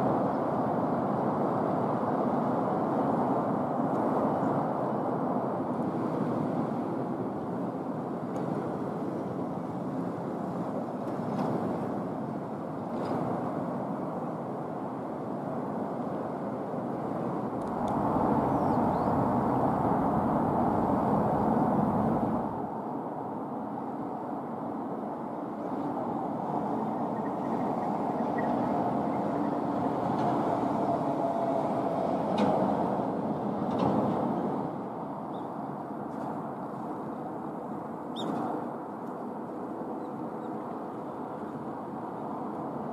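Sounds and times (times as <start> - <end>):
distant road traffic hum: 0.0 - 42.9.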